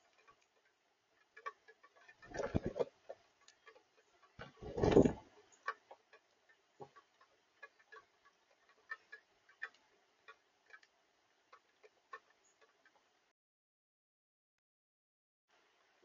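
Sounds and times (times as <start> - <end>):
bird bill tapping on feed: 0.0 - 13.1.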